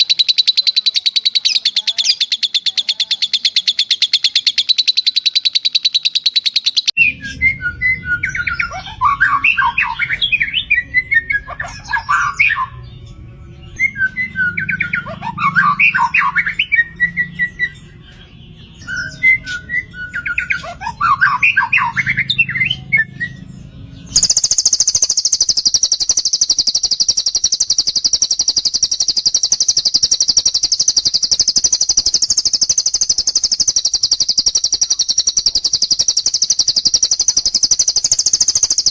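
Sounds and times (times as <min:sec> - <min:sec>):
birds twittering: 0:00.0 - 0:38.9
high-pitched bird trill: 0:00.0 - 0:38.9.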